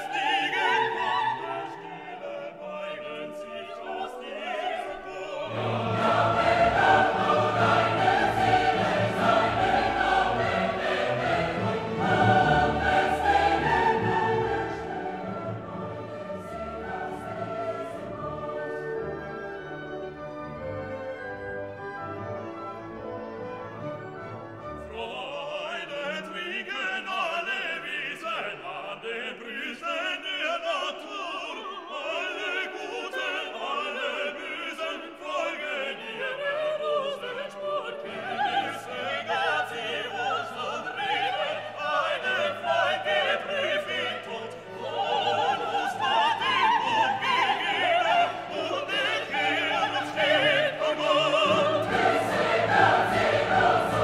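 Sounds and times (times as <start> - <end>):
operatic singing with orchestra: 0.0 - 54.0.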